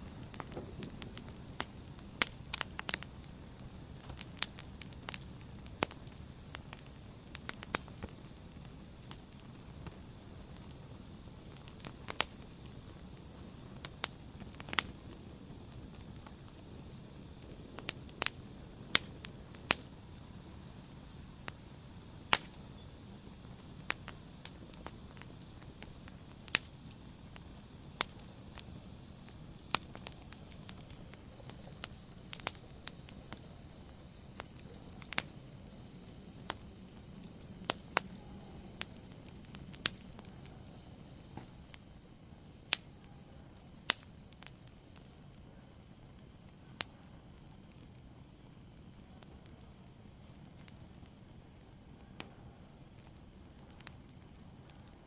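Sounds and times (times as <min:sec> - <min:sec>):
fire crackling and popping: 0:00.0 - 0:55.0
wood fire hissing: 0:00.0 - 0:55.0.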